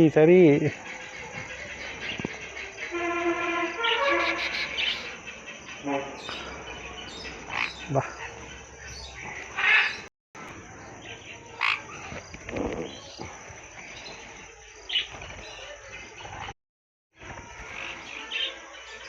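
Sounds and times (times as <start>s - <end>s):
sharp bird calls: 0.0s - 16.5s
cage birds chirping: 0.0s - 16.6s, 17.2s - 19.0s.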